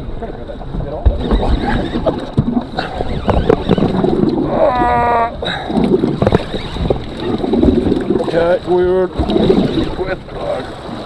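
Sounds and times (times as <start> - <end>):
water slapping boat hull: 0.0 - 11.0
wind buffeting microphone: 0.0 - 11.0.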